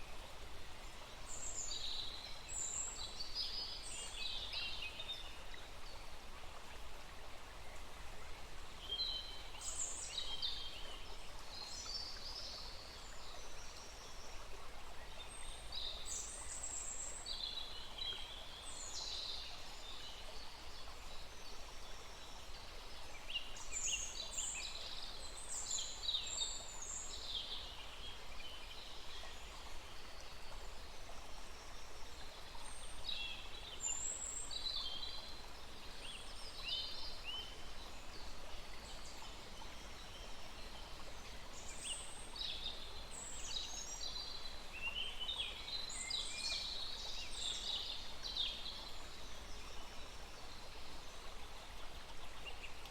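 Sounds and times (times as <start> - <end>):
small stream rushing: 0.0 - 52.9.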